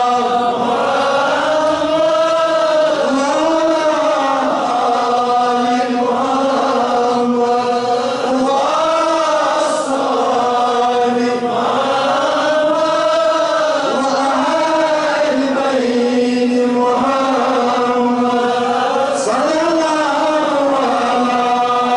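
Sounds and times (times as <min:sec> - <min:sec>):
man chanting: 0:00.0 - 0:21.9.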